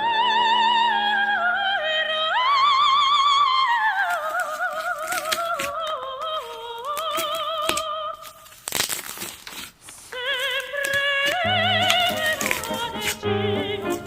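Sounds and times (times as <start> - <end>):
woman singing operatically: 0.0 - 8.2, 10.1 - 14.0.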